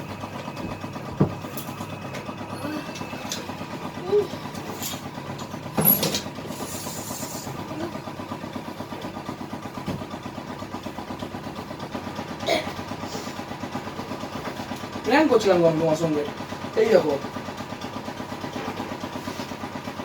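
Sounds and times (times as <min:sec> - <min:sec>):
pulsing motor hum: 0:00.0 - 0:20.0.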